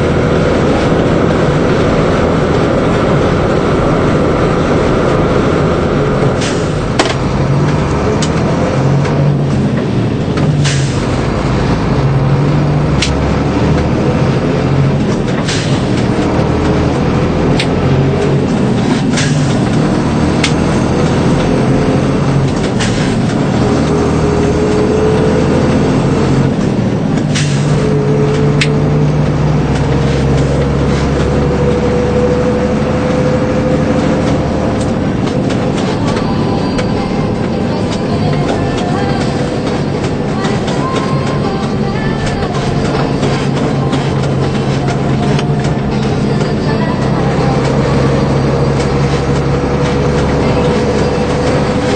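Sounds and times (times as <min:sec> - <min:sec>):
road rumble: 0:00.0 - 0:51.9
truck engine drone: 0:00.0 - 0:51.9.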